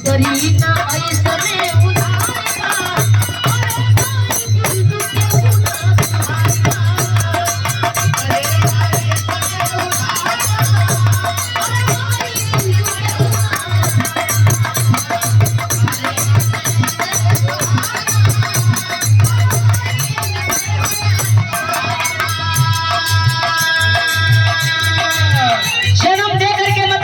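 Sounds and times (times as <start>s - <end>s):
rattling percussion: 0.0s - 27.0s.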